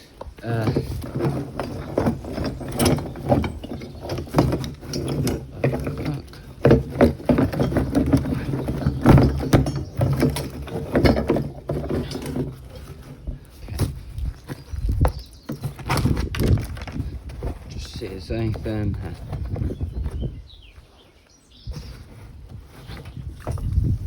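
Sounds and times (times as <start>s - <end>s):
containers knocking and clattering: 0.0s - 20.4s.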